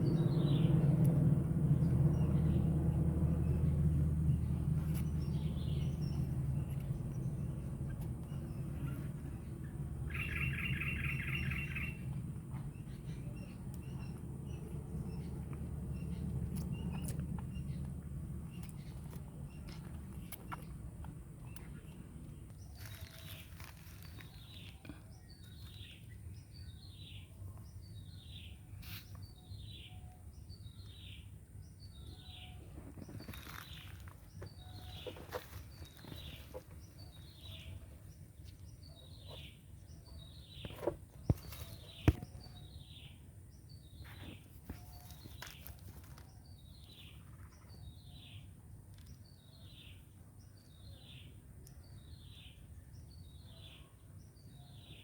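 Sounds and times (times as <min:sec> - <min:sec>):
low background rumble: 0:00.0 - 0:55.0.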